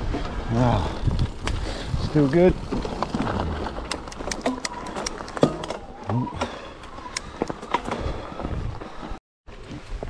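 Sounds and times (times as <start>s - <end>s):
bike clicks and rattles: 0.0s - 9.0s
bike tyre rumble on dirt: 0.0s - 10.0s.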